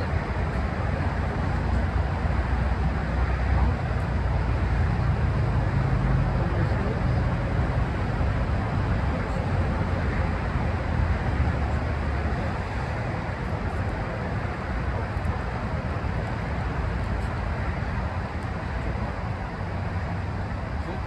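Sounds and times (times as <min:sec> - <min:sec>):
passing cars rumble: 0:00.0 - 0:21.0.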